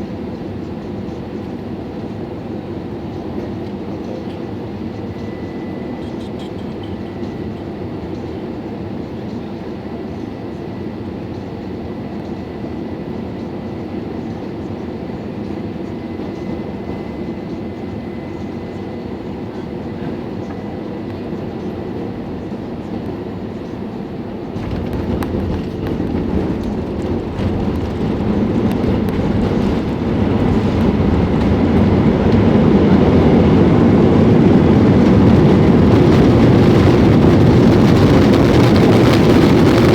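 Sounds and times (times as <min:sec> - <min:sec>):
heavy runway rumble: 0:00.0 - 0:39.9
jet noise: 0:00.0 - 0:39.9.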